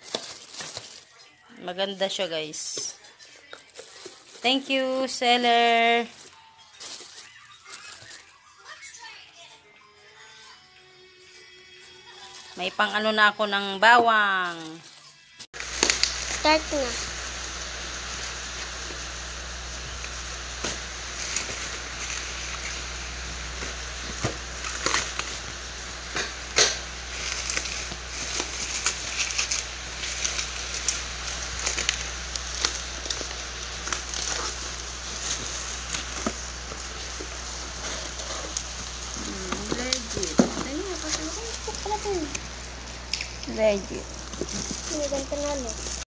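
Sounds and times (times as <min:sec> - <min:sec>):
bubble wrap crackling: 0:00.0 - 0:08.9, 0:11.8 - 0:46.0.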